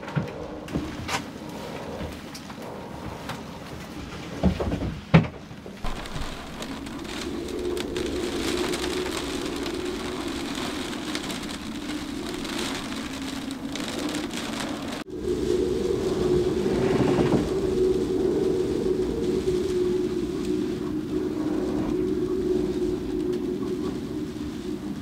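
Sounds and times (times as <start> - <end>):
rain on a cabin roof: 0.2 - 25.0.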